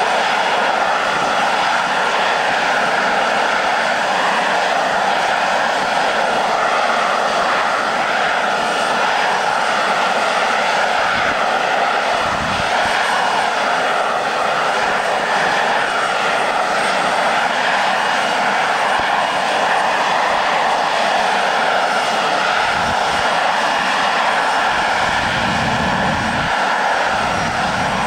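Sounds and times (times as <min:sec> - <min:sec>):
jet engine running: 0:00.0 - 0:28.0.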